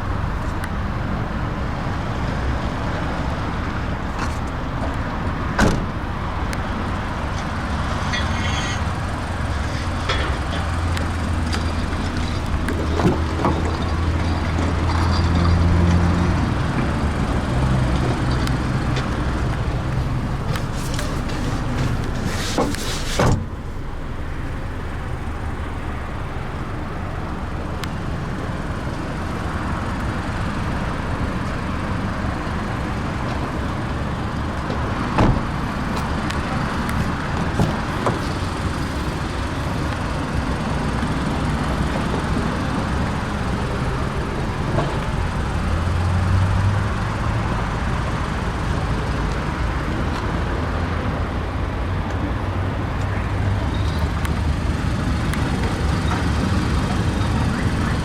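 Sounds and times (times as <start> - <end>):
vehicle rumble and road noise: 0.0 - 58.0.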